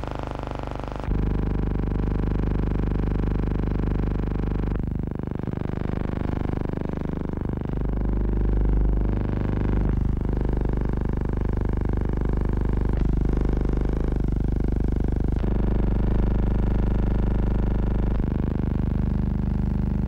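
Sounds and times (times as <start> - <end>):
buzzing hum: 0.0 - 20.0.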